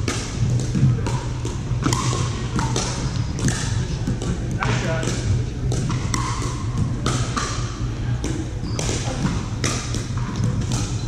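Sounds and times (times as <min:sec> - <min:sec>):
ball bouncing on wooden floor: 0:00.0 - 0:07.6, 0:08.2 - 0:11.0
paddles striking plastic ball: 0:00.0 - 0:11.0
steady low hum: 0:00.0 - 0:11.0.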